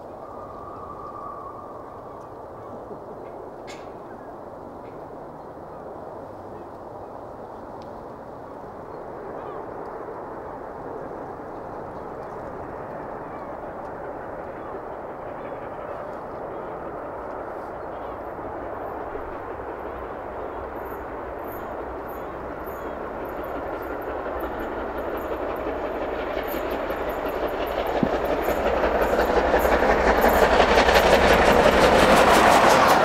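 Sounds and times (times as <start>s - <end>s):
steam locomotive hauling train: 0.0s - 33.0s.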